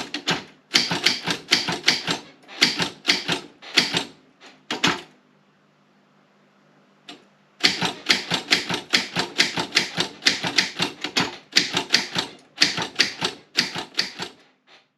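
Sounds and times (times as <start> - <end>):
manual typewriter keystrokes: 0.0 - 5.1, 7.1 - 14.4.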